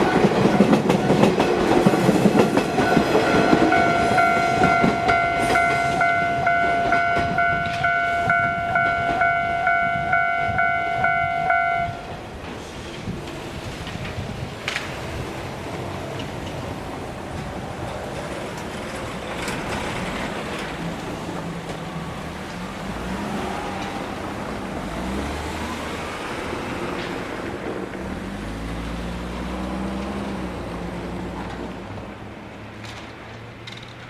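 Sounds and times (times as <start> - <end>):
traffic passing with engine hum: 0.0 - 34.0.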